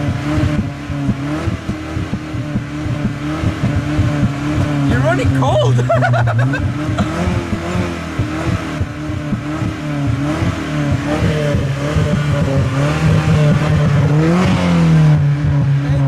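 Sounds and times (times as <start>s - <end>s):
car engine revving unevenly: 0.0s - 16.0s.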